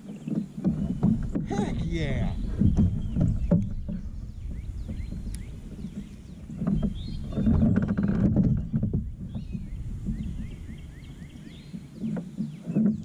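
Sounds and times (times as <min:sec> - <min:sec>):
fish splashing and thrashing: 0:00.0 - 0:13.0.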